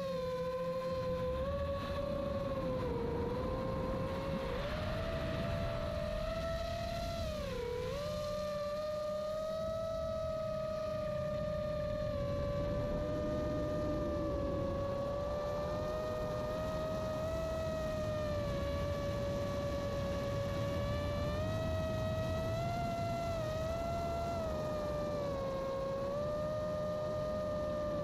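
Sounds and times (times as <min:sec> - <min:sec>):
drone propellers whining: 0:00.0 - 0:28.0.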